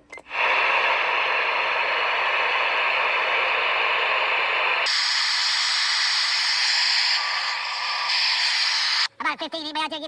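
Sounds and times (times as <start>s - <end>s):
radio static hiss: 0.3s - 9.1s.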